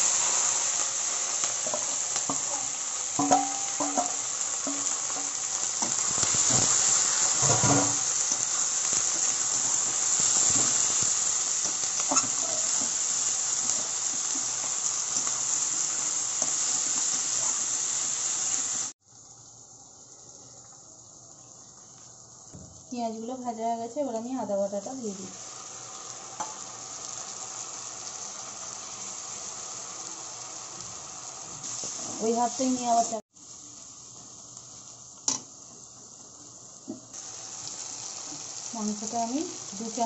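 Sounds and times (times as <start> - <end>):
vegetables sizzling in hot oil: 0.0 - 40.0.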